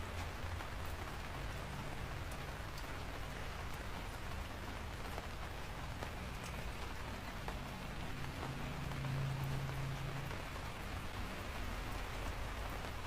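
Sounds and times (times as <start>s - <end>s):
raindrop ticks: 0.0s - 13.0s
steady rain hiss: 0.0s - 13.0s.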